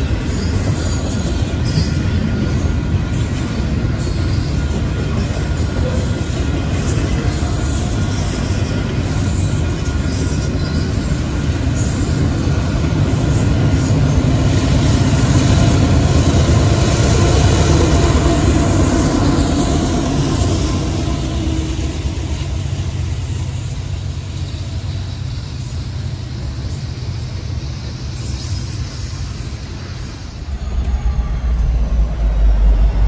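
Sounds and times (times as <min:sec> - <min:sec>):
diesel locomotive drone: 0:00.0 - 0:33.0
wheels clattering on rail: 0:00.0 - 0:33.0.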